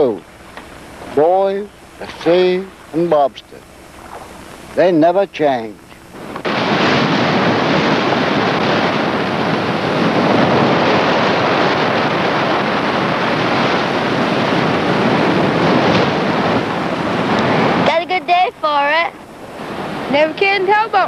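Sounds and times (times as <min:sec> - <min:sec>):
heavy surf roaring over rocks: 0:00.0 - 0:21.0.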